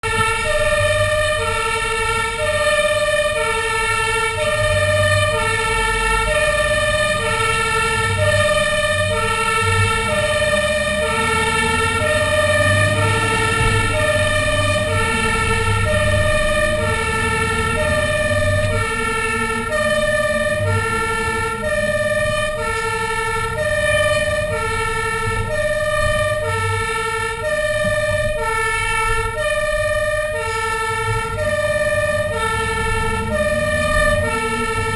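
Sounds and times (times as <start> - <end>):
truck engine rumble: 0.0 - 34.9
two-tone fire engine siren: 0.0 - 34.9.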